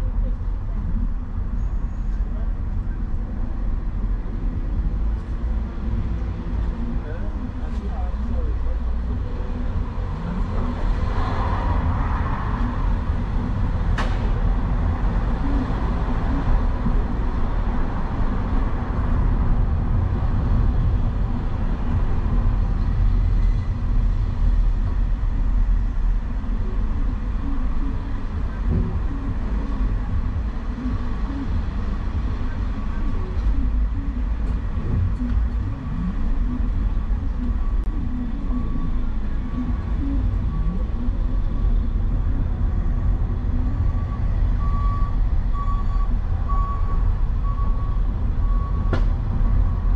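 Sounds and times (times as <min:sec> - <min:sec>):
engine and road noise: 0:00.0 - 0:49.9.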